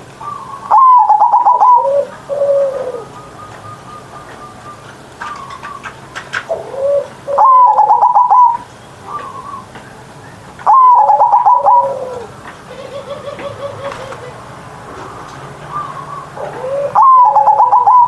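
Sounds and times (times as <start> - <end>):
dove cooing: 0.2 - 9.8, 10.6 - 18.0.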